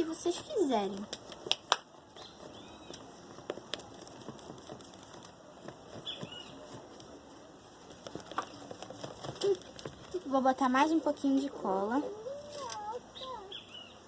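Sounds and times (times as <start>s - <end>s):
stirring patter: 0.0s - 11.9s.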